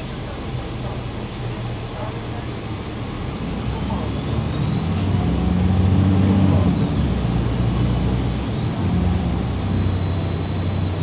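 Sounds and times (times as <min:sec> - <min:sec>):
bus diesel engine under load: 0:00.0 - 0:11.0.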